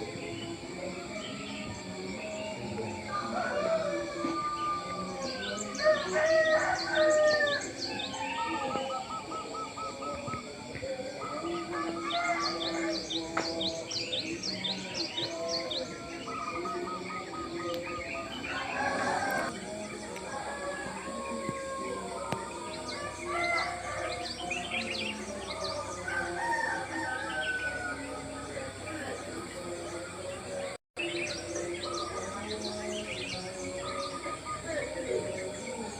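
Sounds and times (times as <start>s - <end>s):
birds singing: 0.0s - 35.9s.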